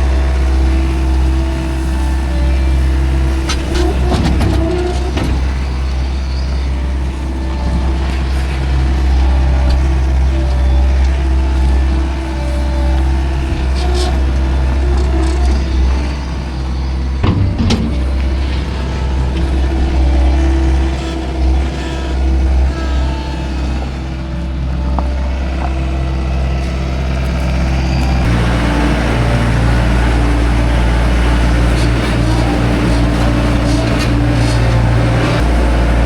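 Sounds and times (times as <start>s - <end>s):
farm machine engine running: 0.0s - 36.0s.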